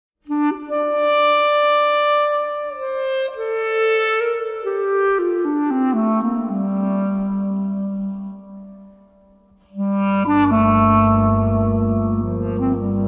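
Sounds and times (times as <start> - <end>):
calm wind instrument music: 0.2 - 13.0.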